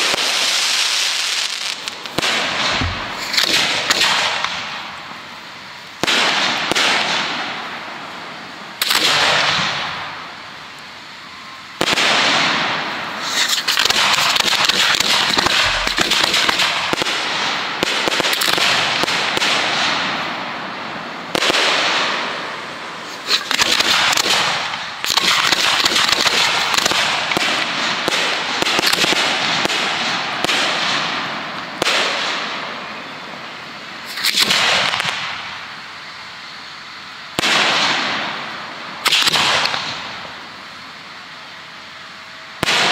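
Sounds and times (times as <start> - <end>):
fireworks bangs: 0.0 - 36.2, 37.0 - 41.4, 42.6 - 42.9
fireworks crackling hiss: 0.0 - 42.9.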